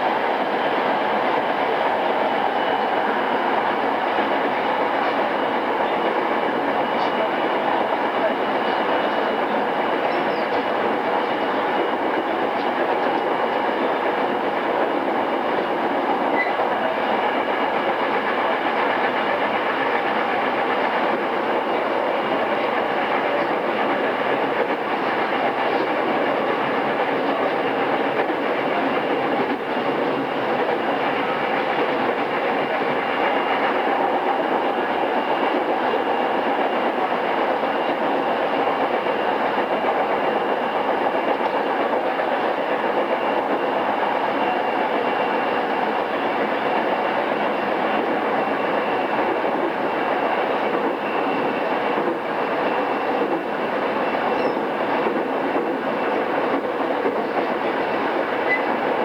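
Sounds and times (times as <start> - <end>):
commuter train running: 0.0 - 59.0.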